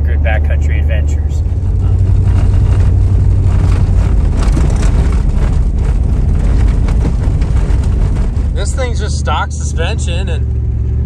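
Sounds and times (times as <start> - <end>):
car tyres and engine rumbling: 0.0 - 11.0.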